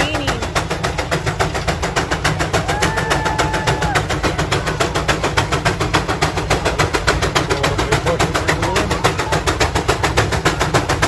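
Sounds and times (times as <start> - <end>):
steam engine exhaust chuffing: 0.0 - 11.0.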